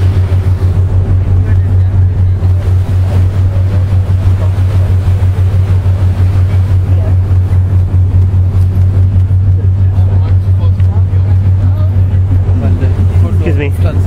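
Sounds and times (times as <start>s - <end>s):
boat engine droning: 0.0s - 14.0s
wind and water hiss: 0.0s - 14.0s.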